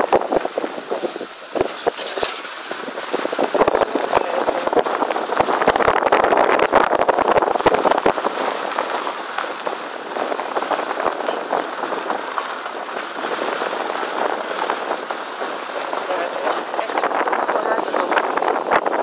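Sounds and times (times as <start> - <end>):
tyres crunching over gravel: 0.0 - 18.6.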